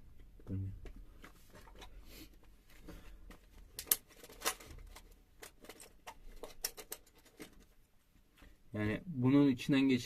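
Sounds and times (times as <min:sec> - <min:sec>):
clicks and rustles of handling: 0:00.2 - 0:08.6.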